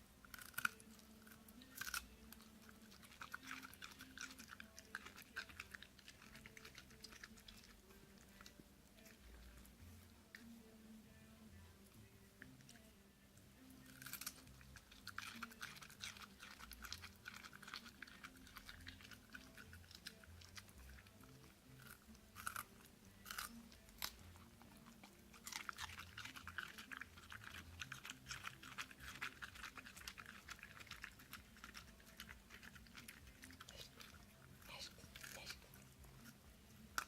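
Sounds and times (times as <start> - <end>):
dog crunching cucumber: 0.2 - 10.5, 13.8 - 37.0.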